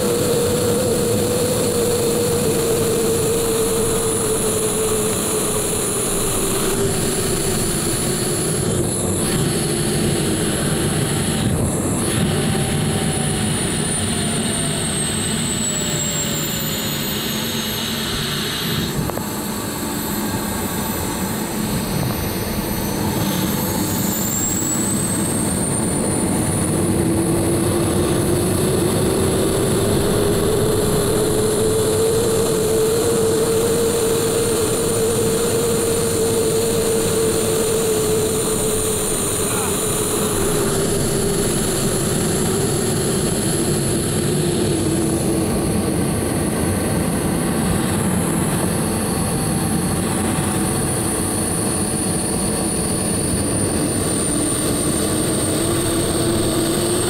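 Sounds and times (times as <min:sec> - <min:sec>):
jet engine whine: 0:00.0 - 0:57.0
wind rush: 0:00.0 - 0:57.0.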